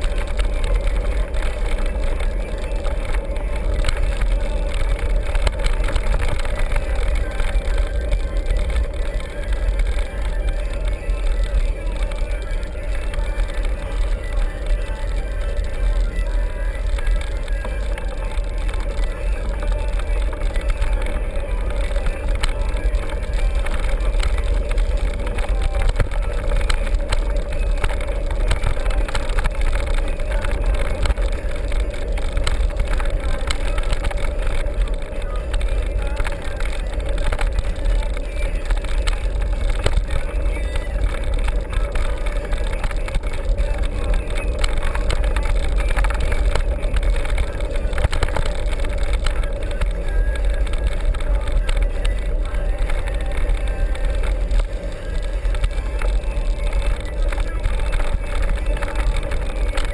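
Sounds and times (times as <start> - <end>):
travel rumble: 0.0 - 59.9
wind noise on microphone: 0.0 - 59.9.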